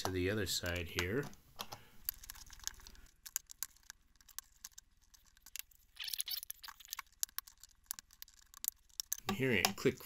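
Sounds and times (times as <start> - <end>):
plastic clicks and ticks: 0.0 - 5.7, 6.5 - 10.0.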